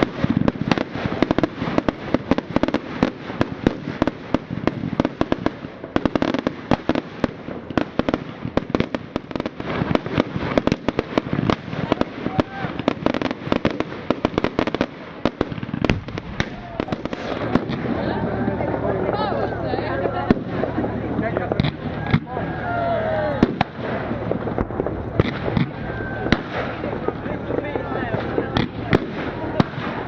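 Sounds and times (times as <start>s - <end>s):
fireworks banging and crackling: 0.0s - 30.0s.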